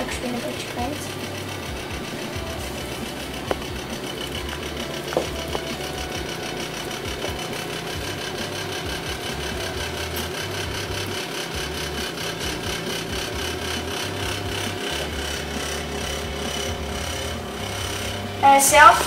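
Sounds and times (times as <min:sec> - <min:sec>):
cotton candy machine motor humming: 0:00.0 - 0:19.0.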